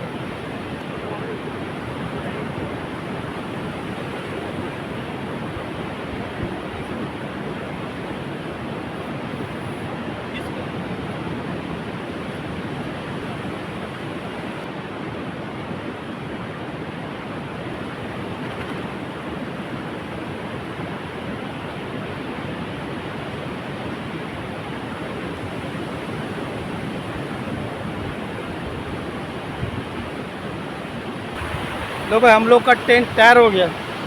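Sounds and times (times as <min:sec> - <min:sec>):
sea surf: 0:00.0 - 0:34.0
wind: 0:00.0 - 0:34.0.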